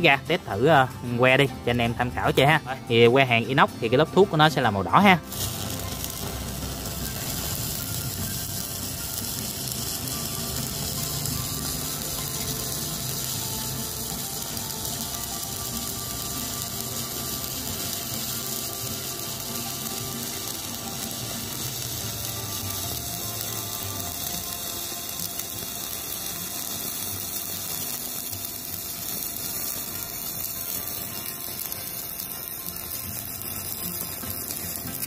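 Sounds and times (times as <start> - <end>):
welding arc crackling hiss: 0.0 - 35.0.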